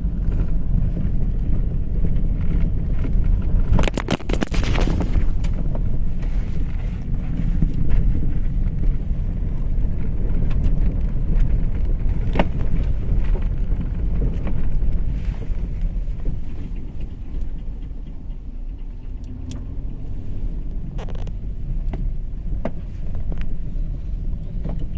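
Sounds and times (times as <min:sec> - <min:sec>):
low road rumble: 0:00.0 - 0:24.9.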